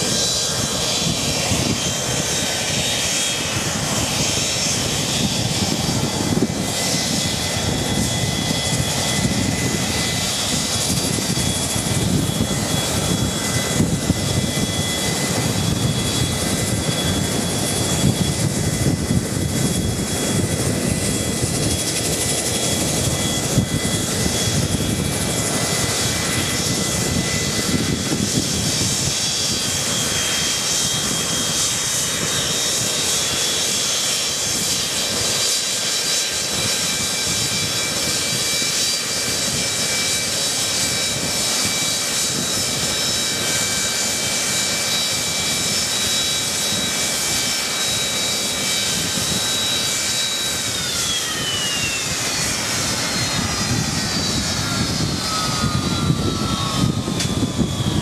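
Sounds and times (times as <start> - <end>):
high-pitched engine whine: 0.0 - 58.0
jet engine rumble: 0.0 - 58.0.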